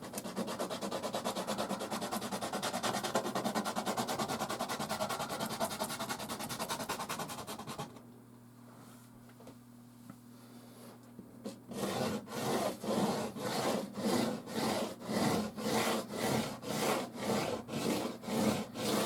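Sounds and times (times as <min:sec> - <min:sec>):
pastel scratching on canvas: 0:00.0 - 0:07.9, 0:11.5 - 0:19.0.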